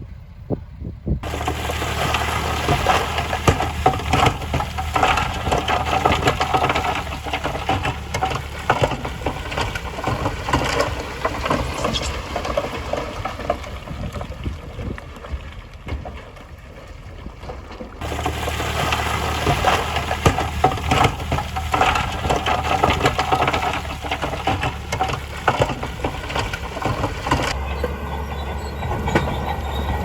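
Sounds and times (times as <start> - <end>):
diesel engine running: 1.2 - 14.0, 18.0 - 30.0
gravel and stones crunching: 1.2 - 27.6.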